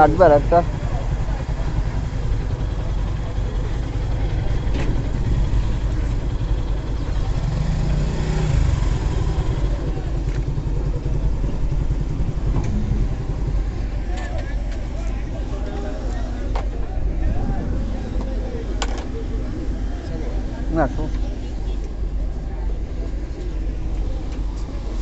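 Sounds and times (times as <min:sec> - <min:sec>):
motorcycle and traffic engines rumbling: 0:00.0 - 0:25.0.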